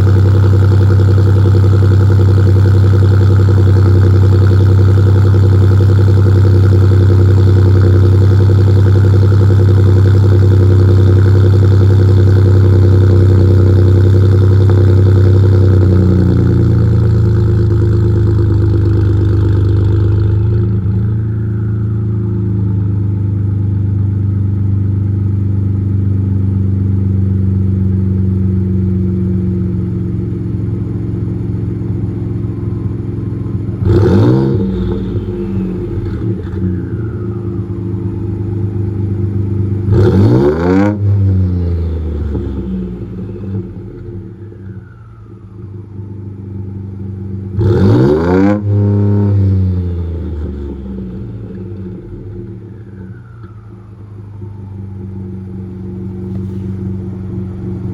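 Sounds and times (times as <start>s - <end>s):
engine revving: 0.0s - 23.4s, 32.4s - 46.0s, 47.5s - 57.9s
truck engine idling: 0.0s - 47.7s, 49.4s - 57.9s.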